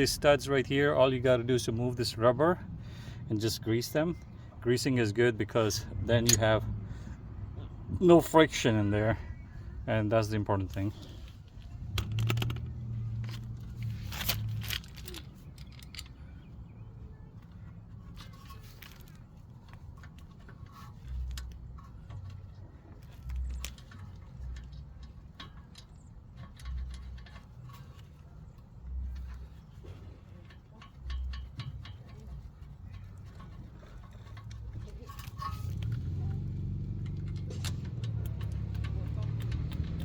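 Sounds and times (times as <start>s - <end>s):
metallic clicks and scrapes: 4.7s - 7.2s, 10.2s - 40.0s.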